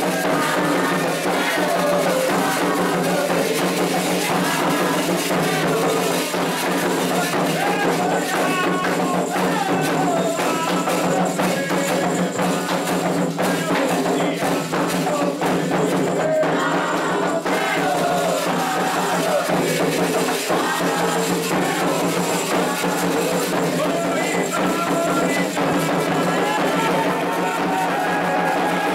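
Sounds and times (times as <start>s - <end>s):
rhythmic drumming and percussion: 0.0s - 28.9s
voices singing a chant: 0.0s - 28.9s.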